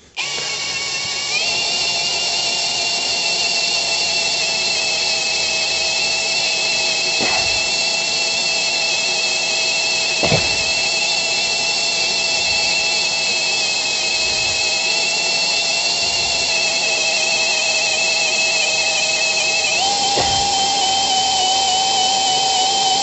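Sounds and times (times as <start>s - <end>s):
cordless drill whining: 0.0s - 23.0s.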